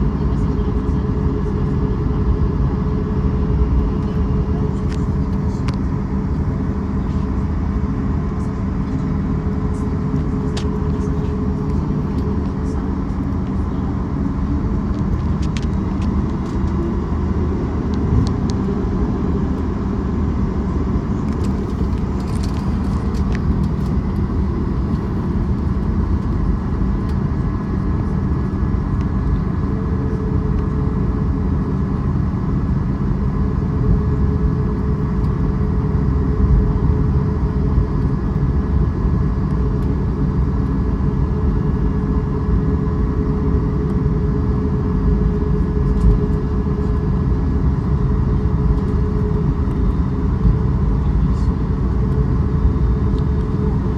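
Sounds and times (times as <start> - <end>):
vehicle engine rumble: 0.0 - 53.9.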